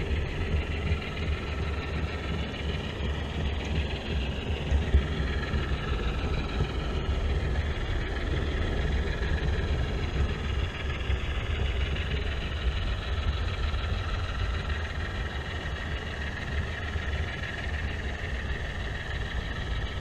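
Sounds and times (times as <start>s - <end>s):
model train wheels rumbling: 0.0s - 20.0s.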